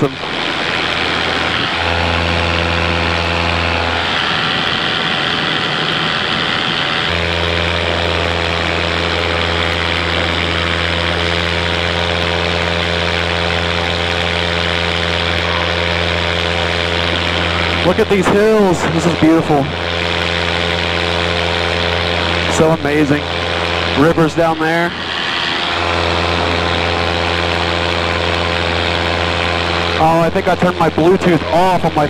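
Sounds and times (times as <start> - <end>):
paramotor engine droning: 0.0 - 32.0.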